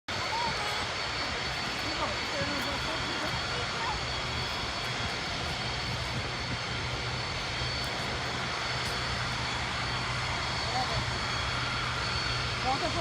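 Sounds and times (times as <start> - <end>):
jet engines running: 0.1 - 13.0.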